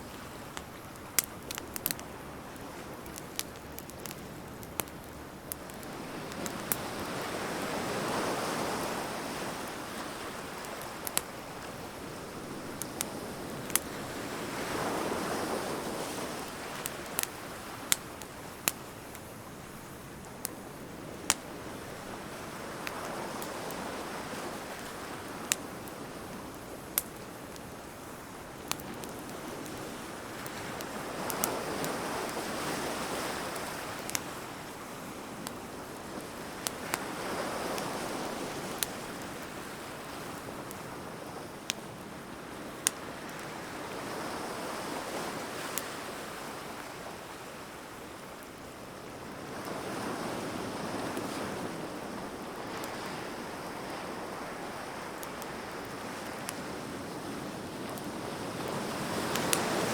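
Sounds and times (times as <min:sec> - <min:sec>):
bonfire crackling and popping: 0:00.0 - 0:59.9.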